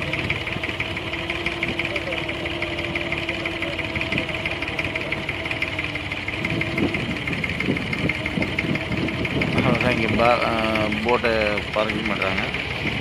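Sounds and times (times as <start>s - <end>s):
boat engine knocking hum: 0.0s - 13.0s.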